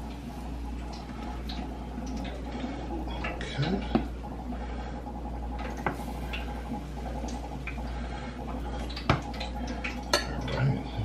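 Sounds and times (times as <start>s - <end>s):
batter squishing and dripping: 0.0s - 11.0s.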